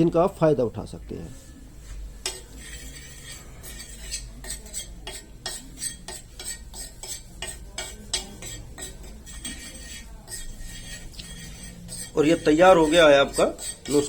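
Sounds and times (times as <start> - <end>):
metal spoon scraping a pan: 1.4 - 14.0.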